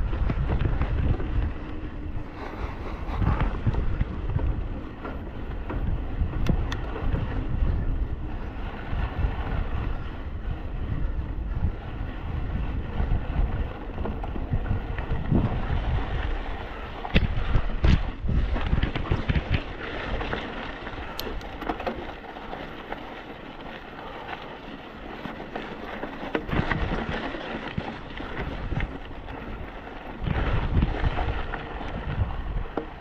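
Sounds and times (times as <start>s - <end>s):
bike rattling and knocking: 0.0s - 33.0s
wind buffeting microphone: 0.0s - 33.0s.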